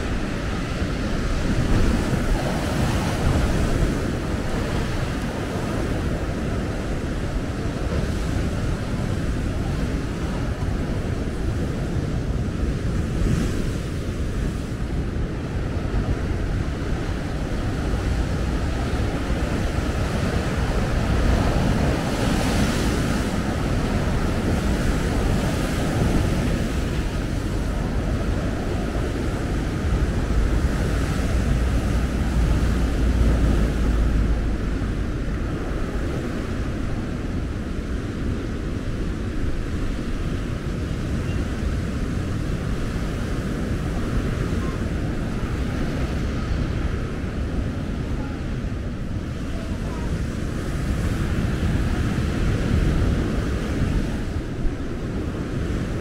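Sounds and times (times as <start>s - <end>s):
surf breaking on shore: 0.0s - 56.0s
wind buffeting microphone: 0.0s - 56.0s.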